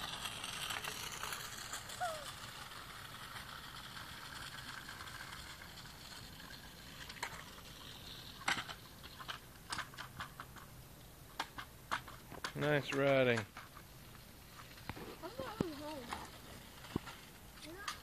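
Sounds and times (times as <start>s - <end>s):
scooter rolling on wet asphalt: 0.0s - 18.0s
sharp clicks and rattling knocks: 2.8s - 10.7s, 11.3s - 18.0s.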